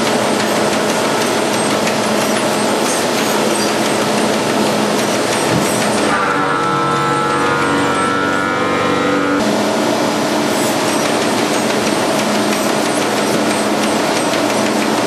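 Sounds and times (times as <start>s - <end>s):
packaging machine running: 0.0s - 8.2s, 9.4s - 15.0s.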